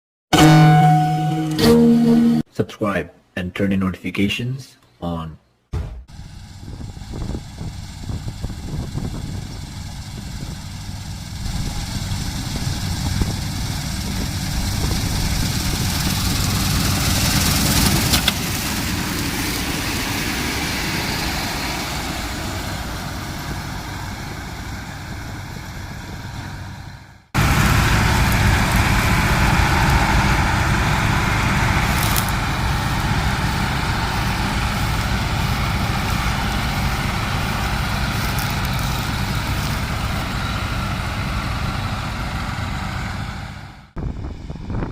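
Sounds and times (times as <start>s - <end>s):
combine harvester running: 6.0s - 44.9s.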